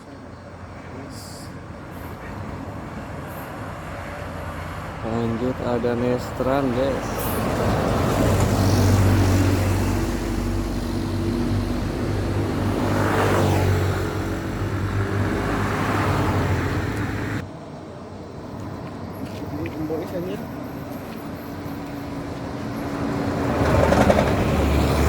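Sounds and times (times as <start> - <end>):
bus driving past: 0.0 - 25.0.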